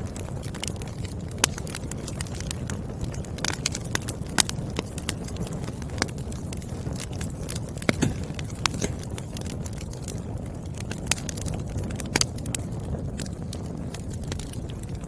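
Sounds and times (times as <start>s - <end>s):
logs crackling and popping: 0.0s - 15.0s
low rush of flame: 0.0s - 15.0s.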